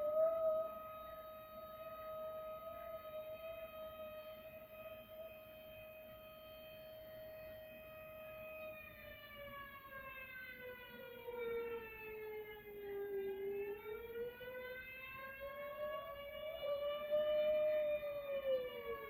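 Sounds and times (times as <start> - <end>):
tornado siren wailing: 0.0 - 19.0.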